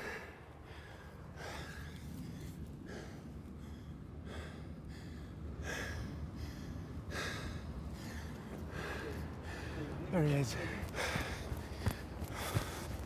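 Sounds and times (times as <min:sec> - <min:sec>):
low steady rumble: 0:00.0 - 0:13.0
man breathing heavily: 0:00.0 - 0:13.0.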